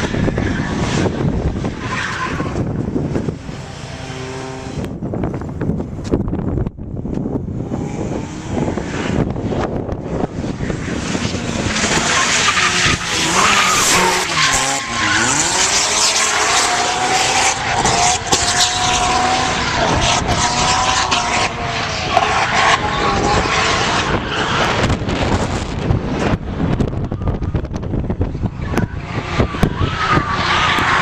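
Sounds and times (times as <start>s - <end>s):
car engine revving: 0.0s - 5.6s, 6.6s - 31.0s.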